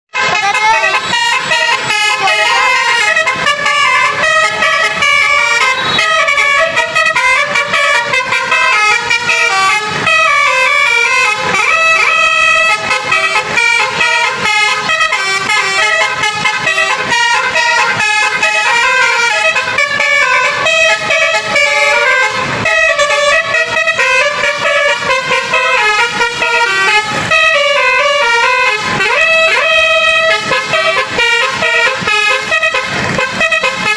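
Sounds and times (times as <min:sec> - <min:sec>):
multi-tone bus horn melody: 0:00.1 - 0:33.9.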